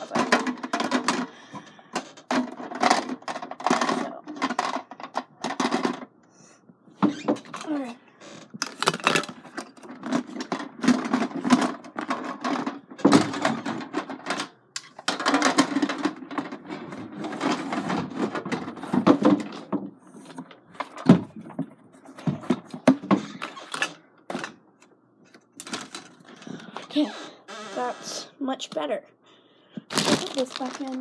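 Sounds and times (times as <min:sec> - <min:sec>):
small objects rustling and clattering: 0:00.0 - 0:06.1, 0:07.1 - 0:24.6, 0:25.3 - 0:26.8, 0:29.8 - 0:31.0.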